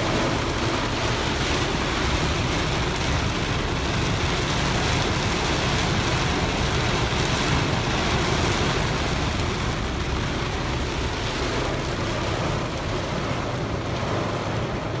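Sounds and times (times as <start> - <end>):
heavy rain on car roof: 0.0 - 15.0
low steady rumble: 0.0 - 15.0.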